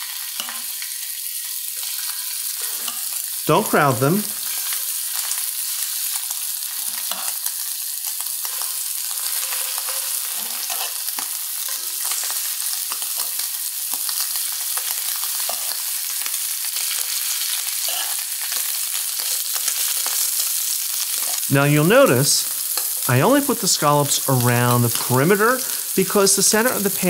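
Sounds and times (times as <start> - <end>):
scallops sizzling in a skillet: 0.0 - 27.0.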